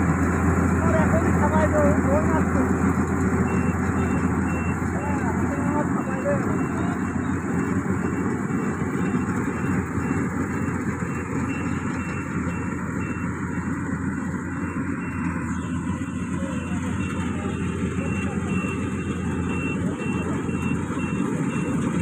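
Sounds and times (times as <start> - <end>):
combine harvester droning: 0.0 - 22.0
faint high beeps: 3.4 - 22.0.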